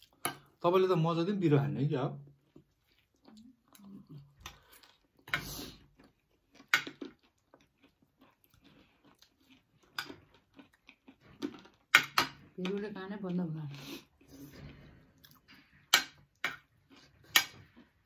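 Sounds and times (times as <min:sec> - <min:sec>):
soft crunchy chewing: 0:02.1 - 0:18.0.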